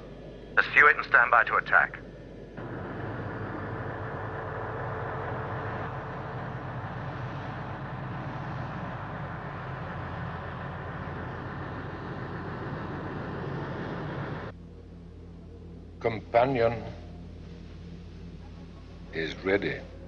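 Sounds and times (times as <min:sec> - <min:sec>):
spacecraft engine rumble: 0:00.0 - 0:20.0.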